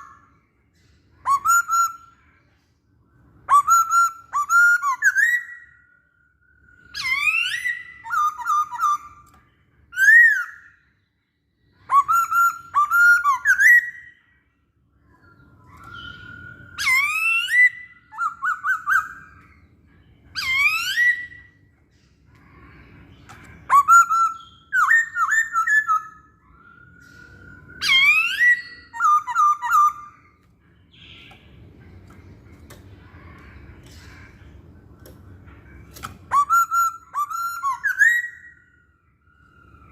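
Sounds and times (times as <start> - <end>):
laughingthrush singing whistled notes: 0.0 - 2.5, 3.2 - 11.0, 11.6 - 32.0, 36.2 - 39.9.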